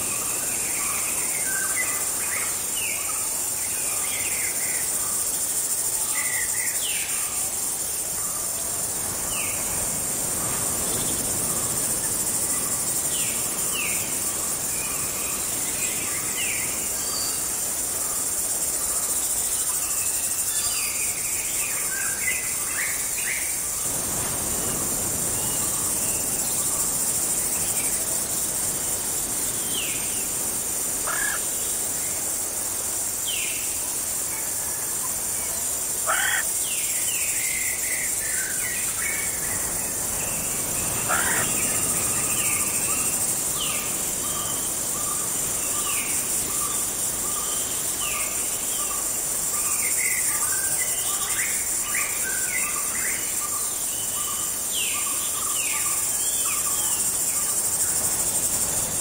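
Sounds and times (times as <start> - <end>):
crickets chorus: 0.0 - 59.0.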